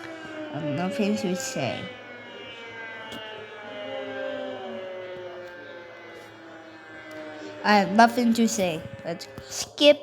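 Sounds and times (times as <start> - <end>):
droning electronic alert tones: 0.0 - 10.0.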